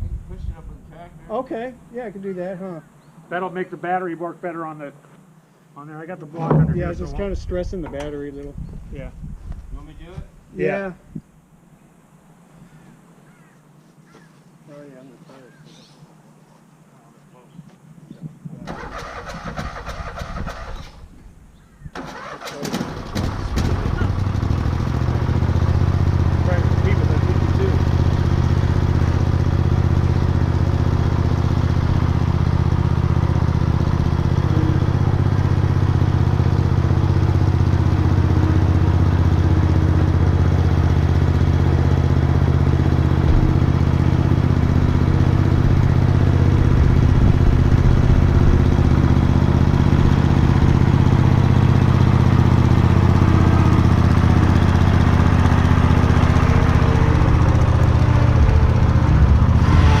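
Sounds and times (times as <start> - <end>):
engine running at low speed: 0.0 - 3.0, 6.4 - 13.8, 17.3 - 60.0.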